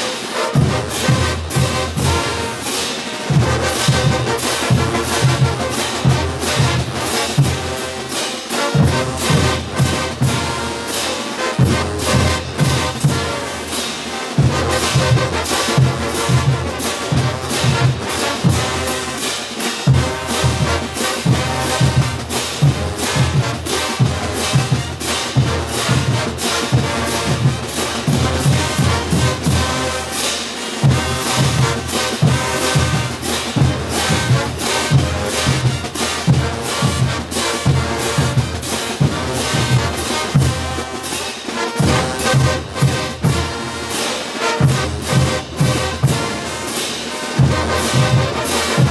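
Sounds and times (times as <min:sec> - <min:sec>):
brass band playing: 0:00.0 - 0:48.9
snare and bass drums: 0:00.0 - 0:48.9.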